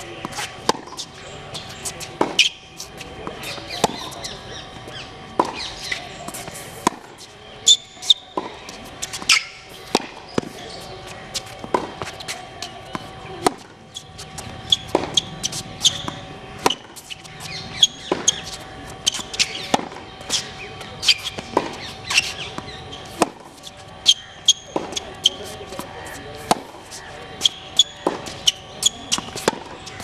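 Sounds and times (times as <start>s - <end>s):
tennis ball bouncing on court: 0.0s - 4.2s, 5.4s - 30.0s
racket hitting tennis ball: 0.0s - 30.0s.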